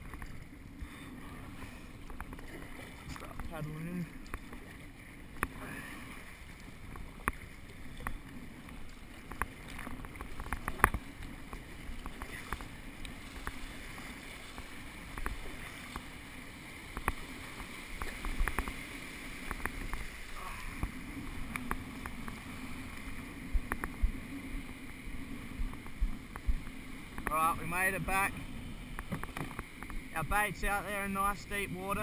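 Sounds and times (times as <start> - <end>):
paddle strokes splashing: 0.0 - 32.0
water washing along kayak: 0.0 - 32.0.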